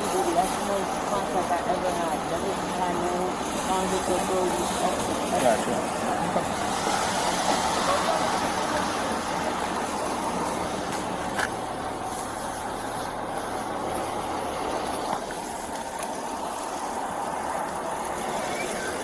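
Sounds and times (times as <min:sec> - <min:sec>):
vehicle rumble and hiss: 0:00.0 - 0:19.0.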